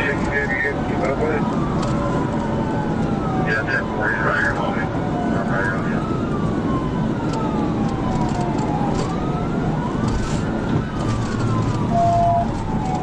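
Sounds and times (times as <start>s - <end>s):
car engine and road noise: 0.0s - 13.0s
police siren wailing: 0.0s - 13.0s.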